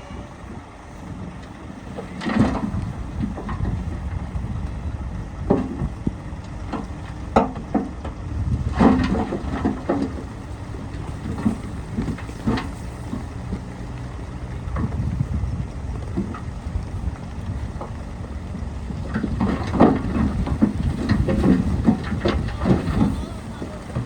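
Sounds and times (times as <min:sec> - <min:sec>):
bulldozer engine rumbling: 0:00.0 - 0:24.0.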